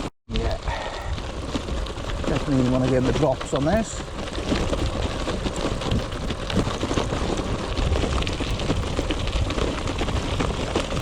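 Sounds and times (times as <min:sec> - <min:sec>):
bike tyres crunching on gravel: 0:00.3 - 0:11.0
wind rumble on microphone: 0:00.3 - 0:11.0.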